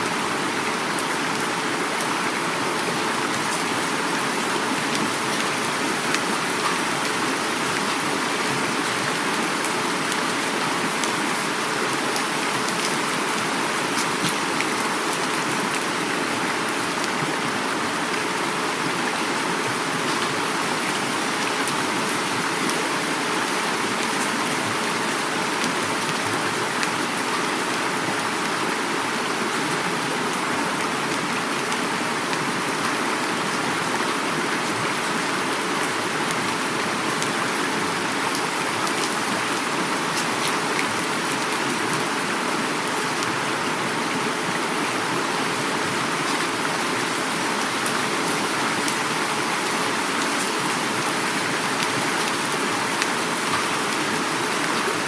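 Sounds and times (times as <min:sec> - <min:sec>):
heavy rain: 0:00.0 - 0:55.0
river water rushing: 0:00.0 - 0:55.0.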